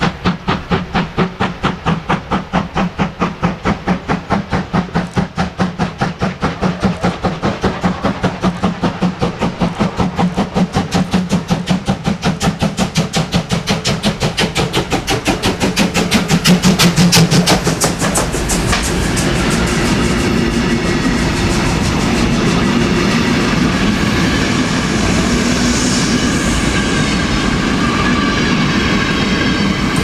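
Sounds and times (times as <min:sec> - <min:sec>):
steam locomotive exhaust chuffs: 0:00.0 - 0:30.0.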